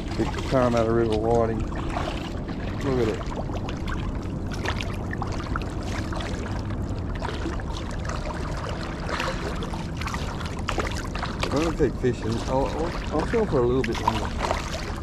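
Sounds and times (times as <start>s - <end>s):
shallow water sloshing and trickling: 0.0s - 15.0s
small splashes and drips: 0.0s - 15.0s.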